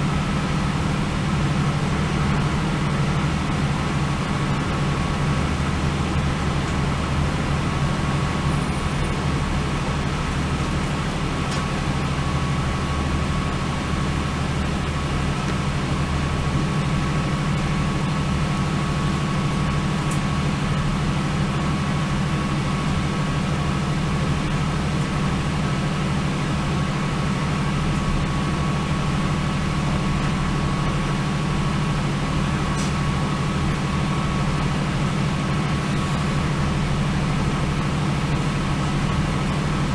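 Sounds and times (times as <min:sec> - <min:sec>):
diesel train engine hum: 0:00.0 - 0:39.9.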